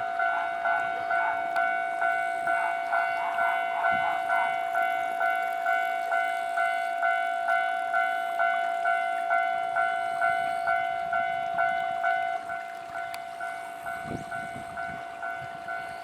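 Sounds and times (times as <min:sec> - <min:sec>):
level-crossing warning bell: 0:00.0 - 0:16.0.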